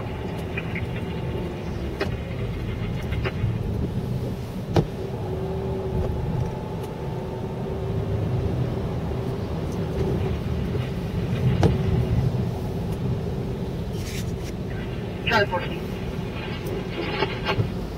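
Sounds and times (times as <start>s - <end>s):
car moving on wet road: 0.0s - 17.9s.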